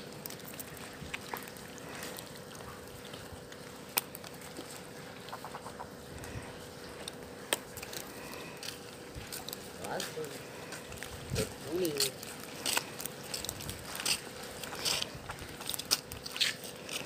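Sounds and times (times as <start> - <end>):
faint steady hum: 0.0 - 17.0
small ticks: 0.0 - 17.0.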